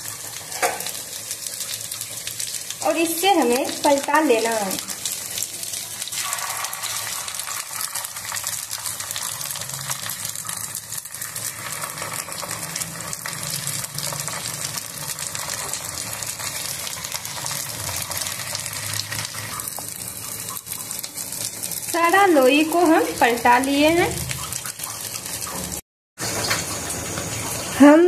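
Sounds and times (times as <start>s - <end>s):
potato balls sizzling in oil: 0.0s - 28.0s.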